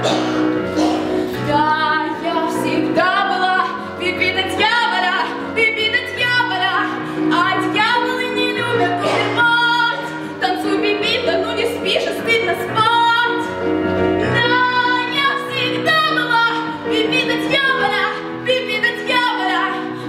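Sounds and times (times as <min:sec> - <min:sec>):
instrumental accompaniment: 0:00.0 - 0:20.0
woman singing: 0:01.4 - 0:13.6, 0:14.2 - 0:20.0.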